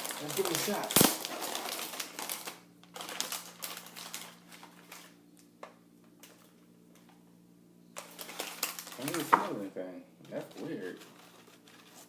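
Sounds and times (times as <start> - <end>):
plastic packaging crinkling: 0.0 - 7.1, 8.0 - 9.6, 10.3 - 12.0.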